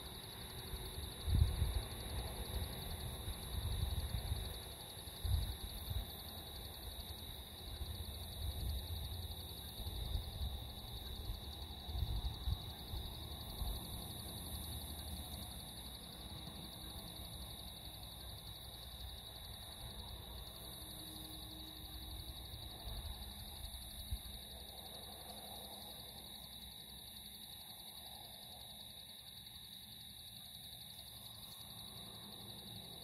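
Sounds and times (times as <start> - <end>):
insects trilling: 0.0 - 33.0.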